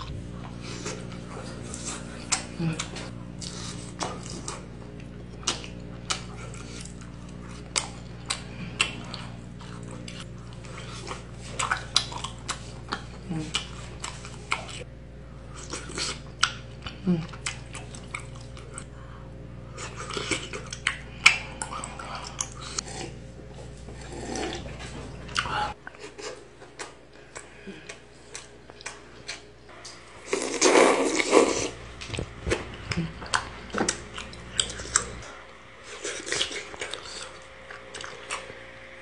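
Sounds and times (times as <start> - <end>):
chewing and biting food: 0.0 - 38.9.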